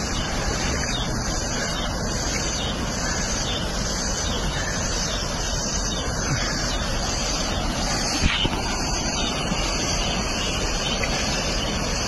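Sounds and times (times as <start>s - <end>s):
floodwater rushing: 0.0s - 12.0s
wind noise on microphone: 0.0s - 12.0s.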